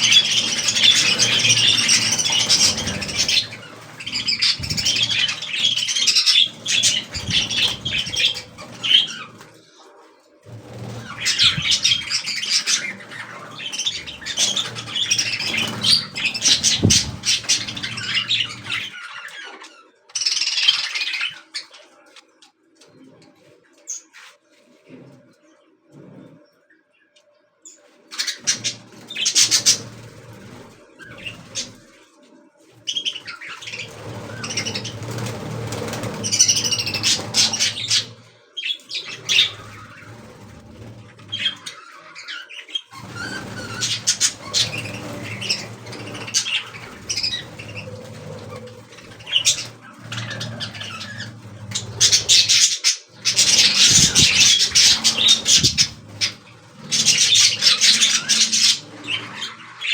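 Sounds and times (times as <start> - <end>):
budgerigars chirping and chattering: 0.0 - 9.5, 10.5 - 22.2, 27.7 - 32.0, 32.8 - 59.9
wings fluttering and rustling: 0.0 - 26.6, 27.7 - 59.9.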